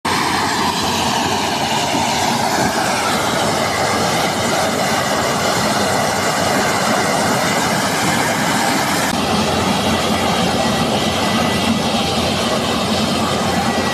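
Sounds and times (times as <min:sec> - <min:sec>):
combine harvester running: 0:00.1 - 0:13.9.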